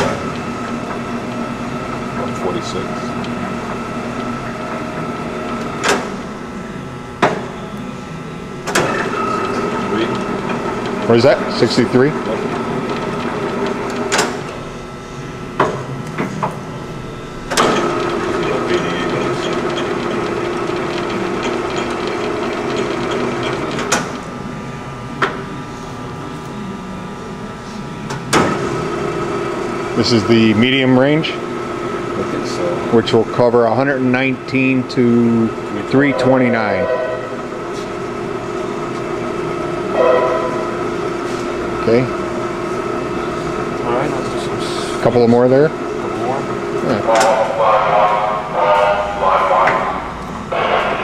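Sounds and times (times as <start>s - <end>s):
lathe motor humming: 0.0s - 51.0s.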